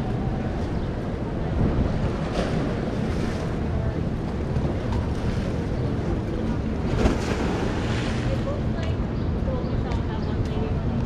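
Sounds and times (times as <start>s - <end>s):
steady low rumble: 0.0s - 11.0s
wind buffeting microphone: 0.0s - 11.0s.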